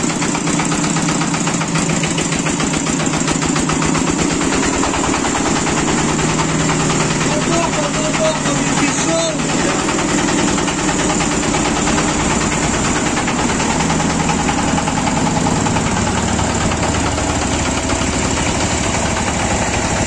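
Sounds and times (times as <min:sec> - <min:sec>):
mini tractor engine running: 0:00.0 - 0:20.0.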